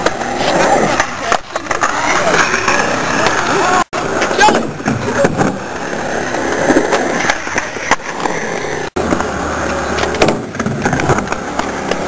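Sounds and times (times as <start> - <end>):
skateboard clacks: 0.0 - 12.0
skateboard wheels rolling on concrete: 0.0 - 12.0.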